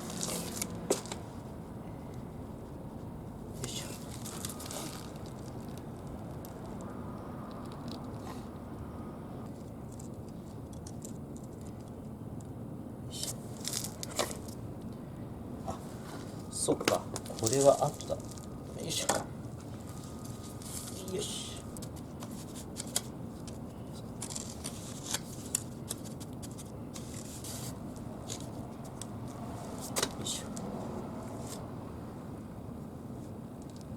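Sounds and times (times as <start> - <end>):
low background noise: 0.0 - 33.9.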